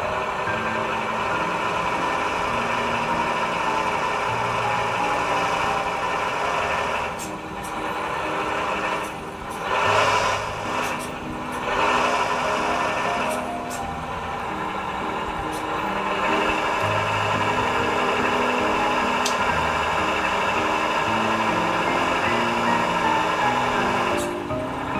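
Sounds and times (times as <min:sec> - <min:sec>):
small hydraulic pump running: 0:00.0 - 0:24.9.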